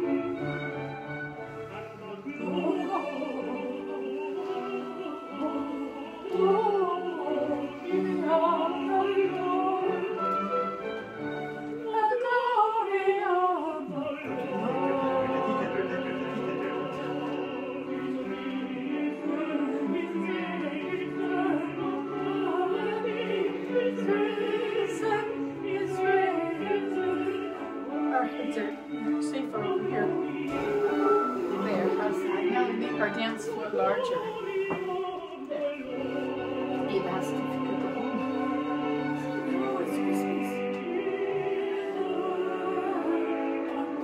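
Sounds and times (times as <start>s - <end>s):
orchestra playing: 0.0s - 12.1s, 14.1s - 44.0s
operatic singing voice: 0.0s - 44.0s.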